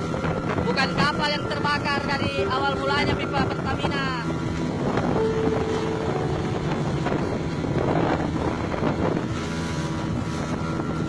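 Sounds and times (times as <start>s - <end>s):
motorboat engine running: 0.0s - 11.0s
wind buffeting microphone: 0.0s - 11.0s.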